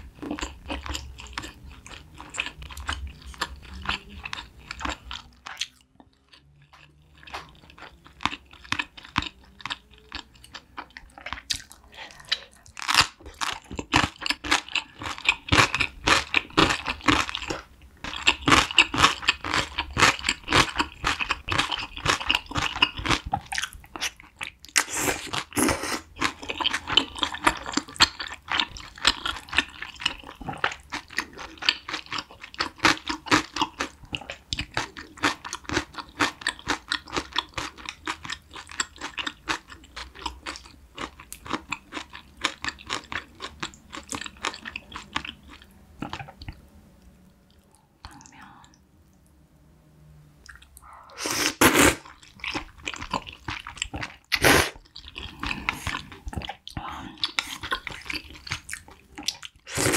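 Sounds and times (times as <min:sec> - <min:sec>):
chewing and biting food: 0:00.0 - 0:48.4, 0:51.6 - 0:59.9.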